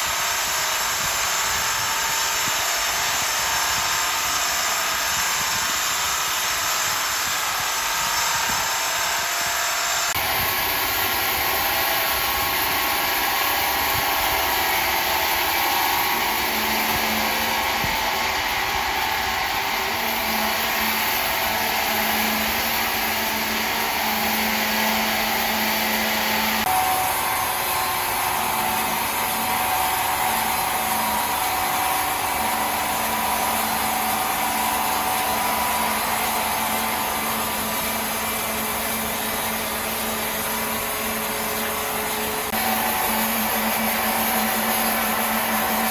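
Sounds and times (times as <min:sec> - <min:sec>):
sawmill machinery whirring: 0:00.0 - 0:45.9.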